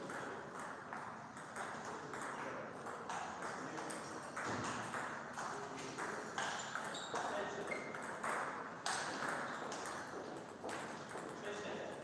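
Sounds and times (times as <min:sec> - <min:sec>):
table tennis ball hitting bats and table: 0:00.0 - 0:11.8.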